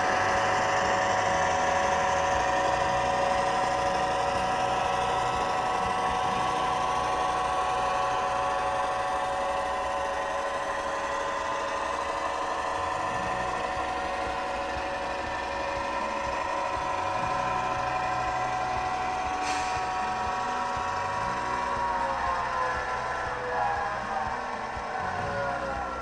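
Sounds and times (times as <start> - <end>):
diesel engine sound through small speaker: 0.0 - 26.0.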